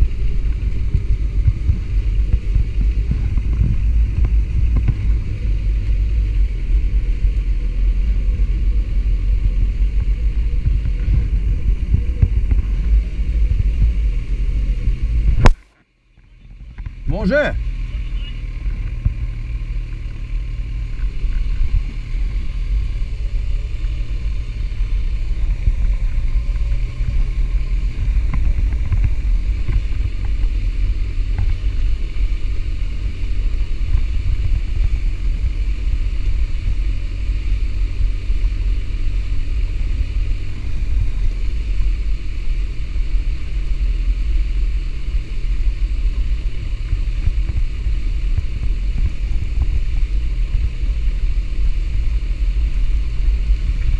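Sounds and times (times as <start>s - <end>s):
motorcycle riding over cobblestones: 0.0s - 15.6s, 16.2s - 53.9s.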